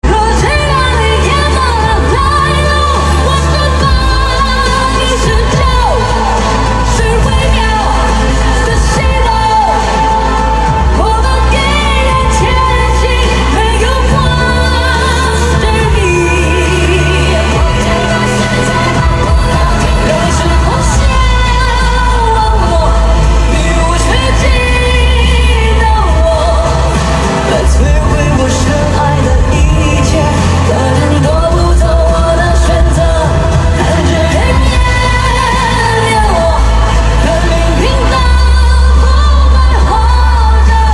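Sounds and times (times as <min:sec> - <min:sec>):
band accompaniment with bass: 0:00.0 - 0:40.9
person singing pop ballad: 0:00.0 - 0:40.9.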